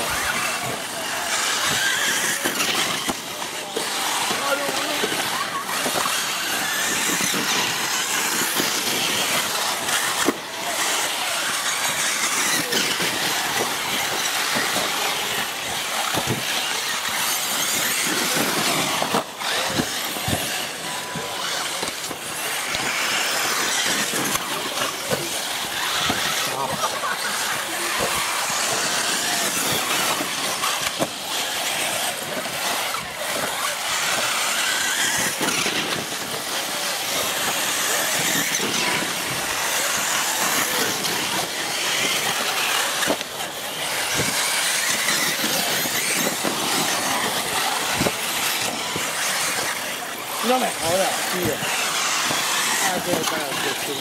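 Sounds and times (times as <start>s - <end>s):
model race car motors whining: 0.0s - 54.0s.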